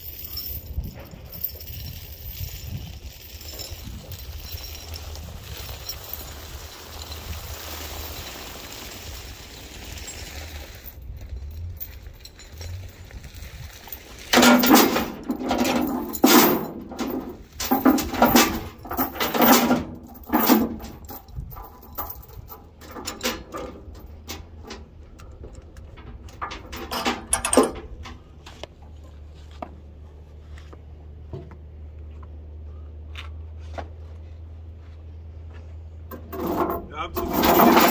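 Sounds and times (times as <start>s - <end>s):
metal chain rattling and clanking: 0.0s - 28.5s, 36.0s - 37.9s.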